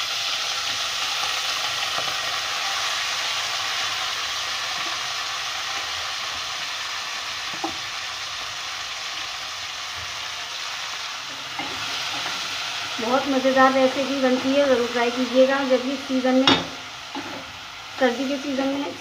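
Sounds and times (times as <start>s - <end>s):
hot oil sizzling in a pot: 0.0s - 19.0s.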